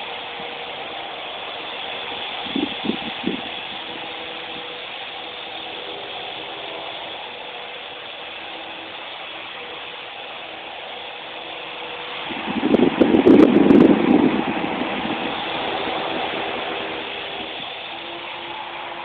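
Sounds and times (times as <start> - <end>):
toy helicopter rotor whirring: 0.0 - 19.0.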